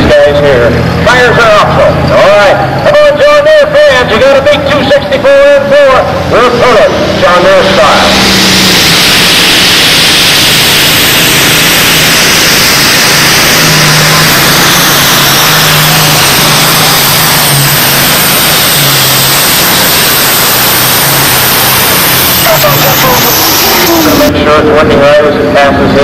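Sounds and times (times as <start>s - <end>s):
diesel tractor engine at full throttle: 0.0s - 26.0s.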